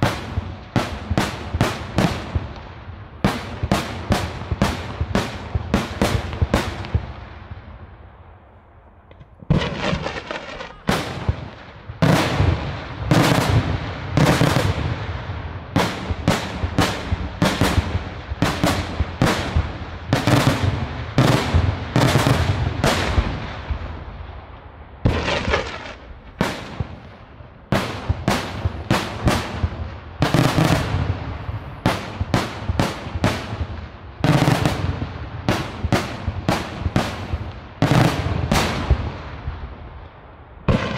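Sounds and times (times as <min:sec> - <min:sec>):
fireworks bangs echoing: 0:00.0 - 0:08.1, 0:09.1 - 0:40.9.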